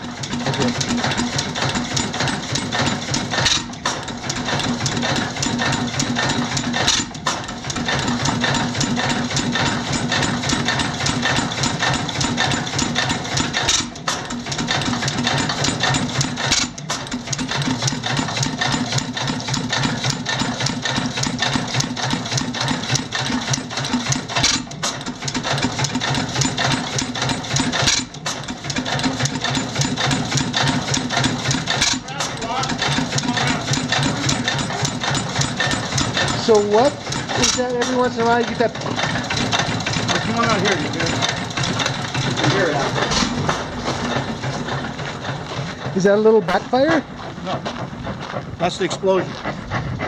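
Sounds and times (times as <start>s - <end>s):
engine firing beat: 0.0s - 50.0s
engine mechanical clatter: 0.0s - 50.0s.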